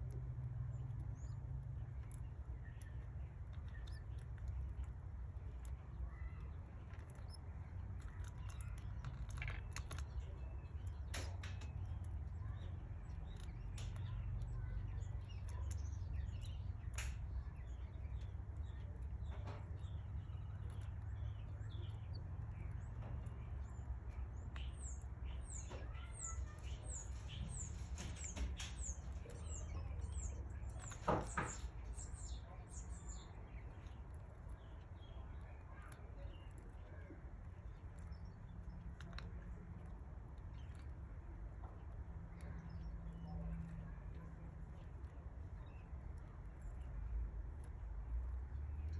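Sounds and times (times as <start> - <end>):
chicks cheeping: 0.0 - 47.6.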